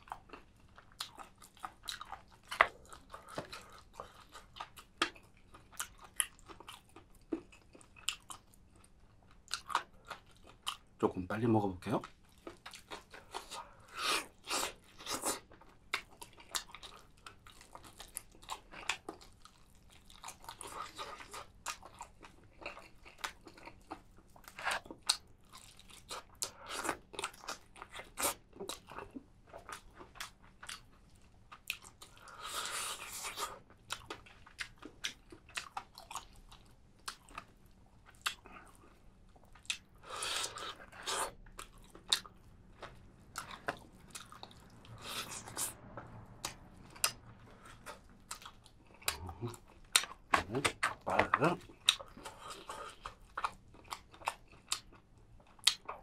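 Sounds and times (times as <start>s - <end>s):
crunching and chewing food: 0.0s - 56.0s.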